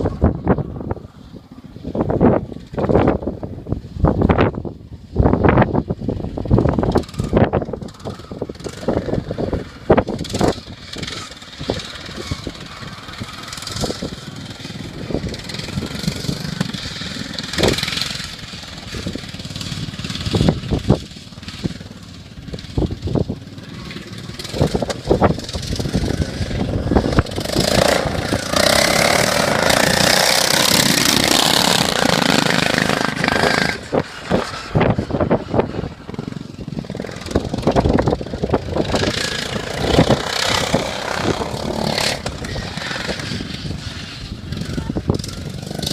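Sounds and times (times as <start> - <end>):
lawn mower engines running: 0.0 - 45.9
wind buffeting microphone: 0.0 - 45.9.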